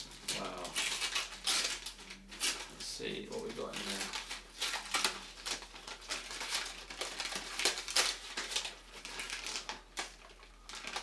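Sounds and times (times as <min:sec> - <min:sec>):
packing paper crinkling and tearing: 0:00.0 - 0:11.0.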